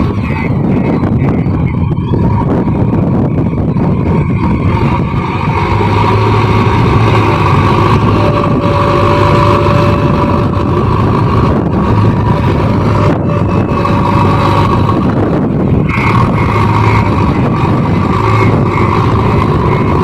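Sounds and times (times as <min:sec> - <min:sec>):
diesel engine running: 0:00.0 - 0:20.0
thin steady whine: 0:00.0 - 0:20.0.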